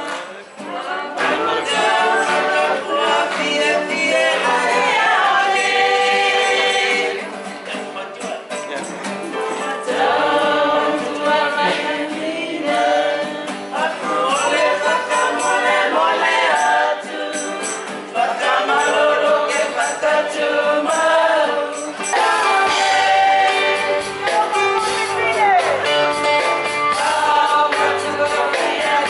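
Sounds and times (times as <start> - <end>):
group singing in harmony: 0.0 - 8.5, 9.3 - 29.0.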